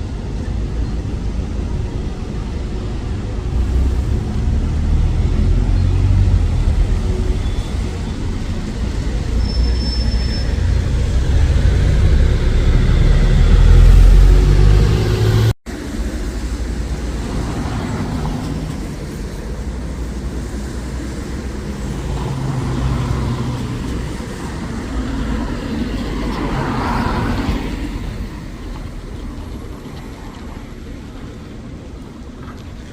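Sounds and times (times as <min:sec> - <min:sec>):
heavy bus engine rumble: 0:00.0 - 0:32.9
steady road traffic: 0:00.0 - 0:32.9.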